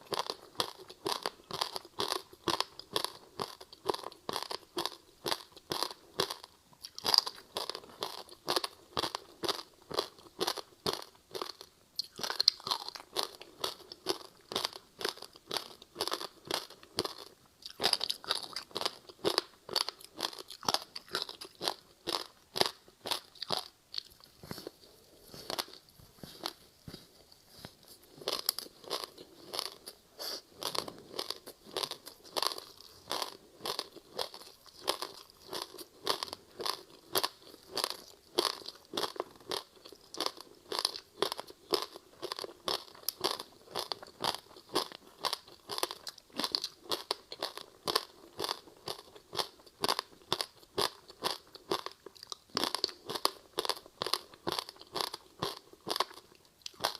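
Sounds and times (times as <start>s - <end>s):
crunchy ice being chewed: 0.0s - 56.9s.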